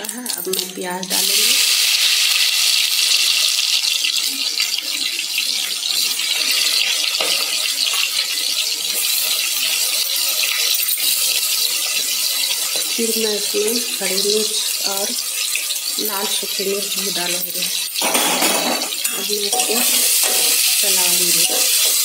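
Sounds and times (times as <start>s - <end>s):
onions sizzling in ghee: 0.0s - 22.0s.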